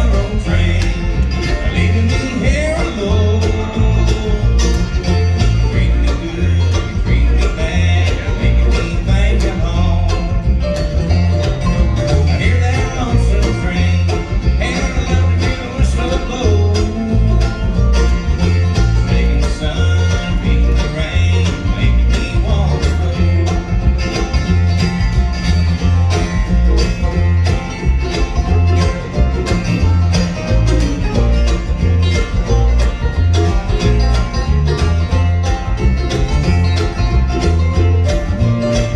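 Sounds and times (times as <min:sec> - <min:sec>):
banjo picking: 0:00.0 - 0:38.9
bass beat: 0:00.0 - 0:38.9
bluegrass band playing: 0:00.0 - 0:38.9.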